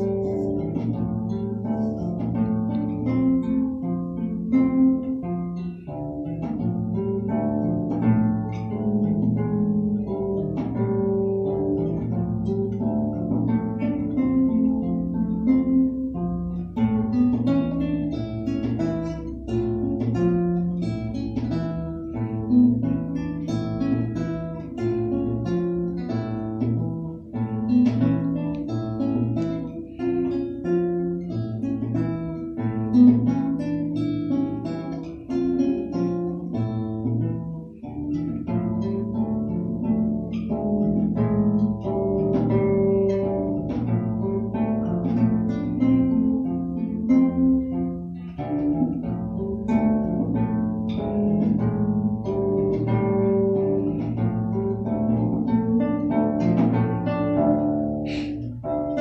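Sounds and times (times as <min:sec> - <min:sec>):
fingerstyle classical guitar: 0:00.0 - 0:59.0.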